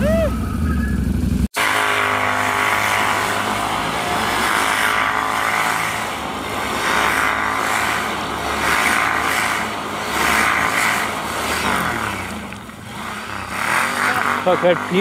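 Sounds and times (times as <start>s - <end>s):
quad engine revving: 0.0s - 15.0s.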